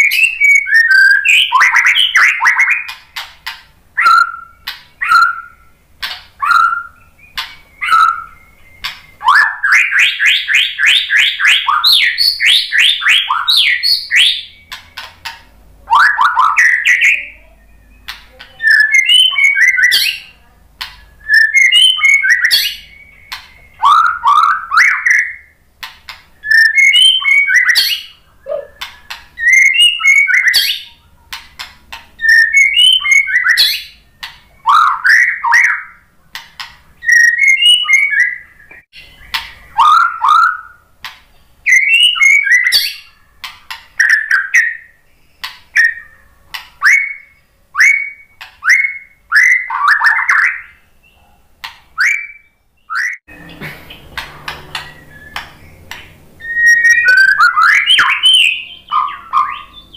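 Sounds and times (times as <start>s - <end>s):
bird whistling song: 0.0s - 3.3s, 4.0s - 25.6s, 26.4s - 31.4s, 32.2s - 40.9s, 41.6s - 51.4s, 52.0s - 59.9s.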